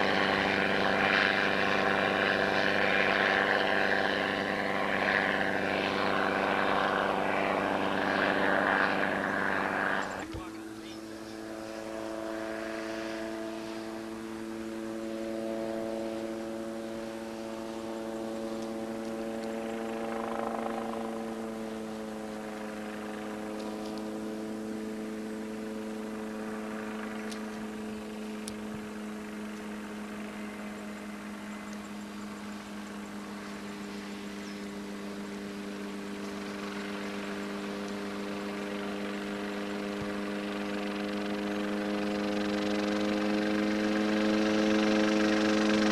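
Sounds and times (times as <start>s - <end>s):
helicopter droning: 0.0s - 45.9s.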